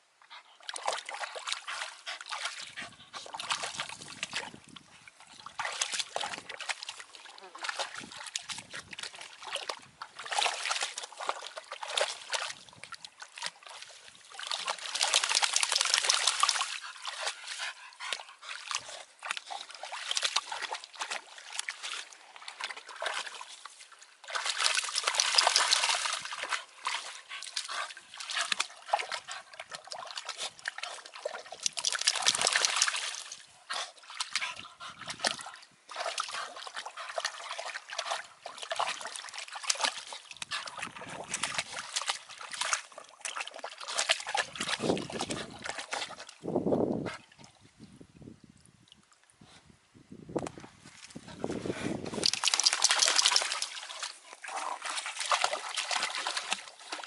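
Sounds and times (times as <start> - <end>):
puppy splashing in muddy water: 0.2 - 49.8, 50.4 - 57.0.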